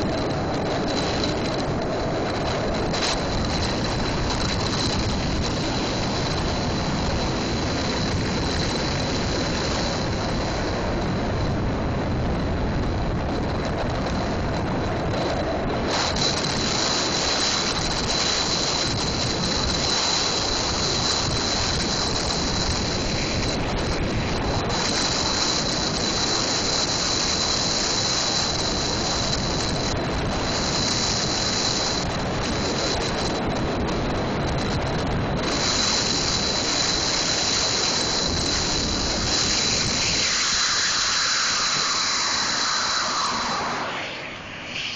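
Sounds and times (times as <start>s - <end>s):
wheels rolling fast on asphalt: 0.0s - 44.9s
wind rushing: 0.0s - 44.9s.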